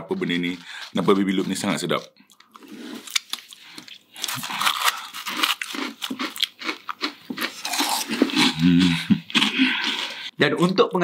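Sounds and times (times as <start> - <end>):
chewing crunchy cereal: 0.1 - 10.3.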